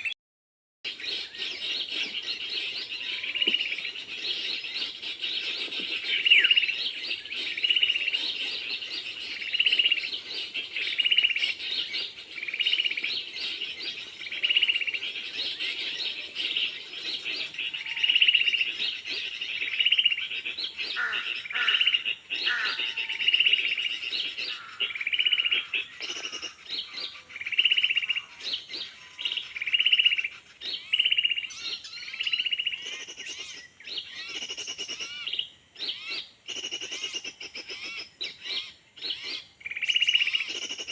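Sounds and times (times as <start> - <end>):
other bird calls: 0.9 - 40.9
small bird chirping: 0.9 - 40.9.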